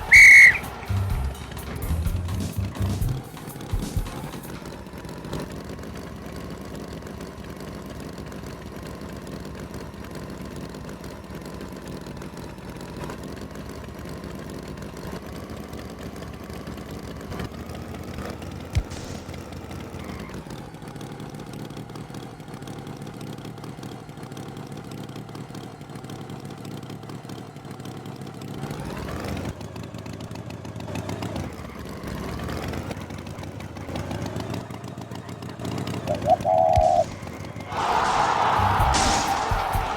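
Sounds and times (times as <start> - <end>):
engine idling and revving: 0.0 - 39.1.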